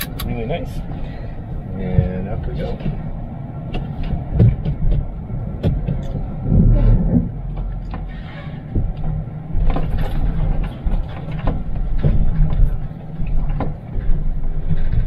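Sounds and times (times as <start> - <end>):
engine and road rumble: 0.0 - 15.0
heavy vehicle jolt: 0.0 - 15.0.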